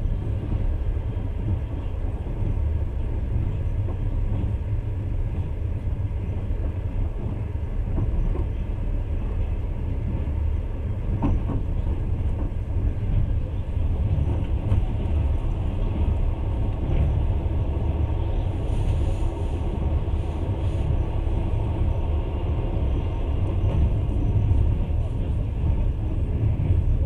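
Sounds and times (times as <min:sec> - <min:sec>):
train rumbling over rails: 0:00.0 - 0:27.0.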